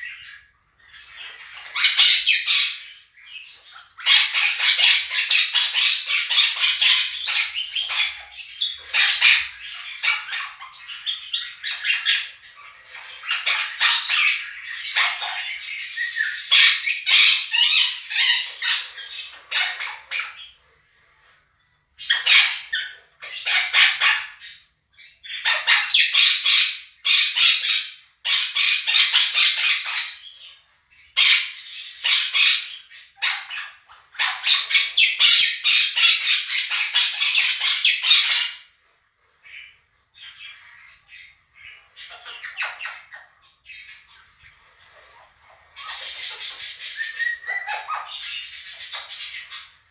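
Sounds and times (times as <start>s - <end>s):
parakeets squawking and screeching: 0.0s - 20.9s, 21.9s - 38.8s, 39.4s - 49.9s.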